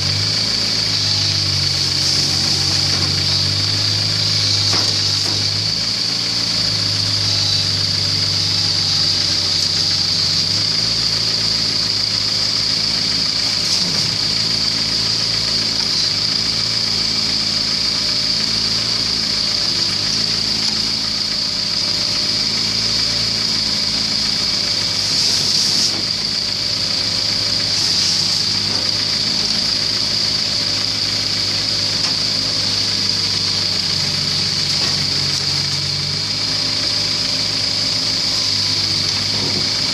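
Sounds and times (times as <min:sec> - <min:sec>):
constant high whine: 0:00.0 - 0:39.9
excavator engine running: 0:00.0 - 0:39.9.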